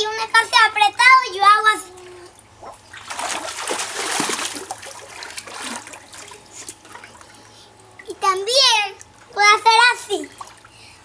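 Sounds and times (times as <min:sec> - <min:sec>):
pool water splashing: 0:01.4 - 0:10.8.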